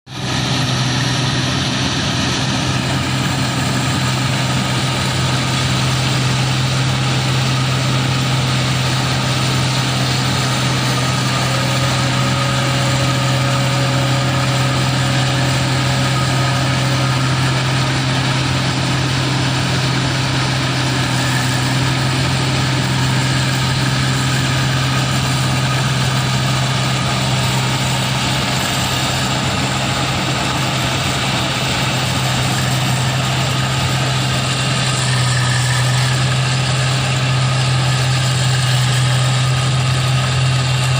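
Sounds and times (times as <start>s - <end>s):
combine harvester engine drone: 0.1s - 40.9s
machinery noise: 0.1s - 40.9s.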